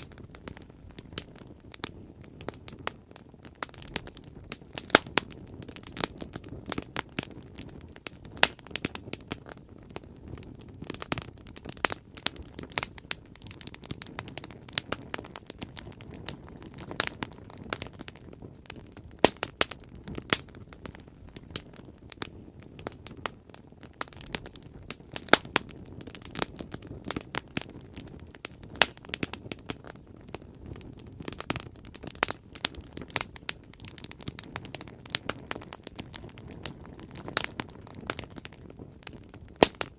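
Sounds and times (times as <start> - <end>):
low rushing rumble of flames: 0.0 - 39.9
wood fire crackling and popping: 0.0 - 39.9.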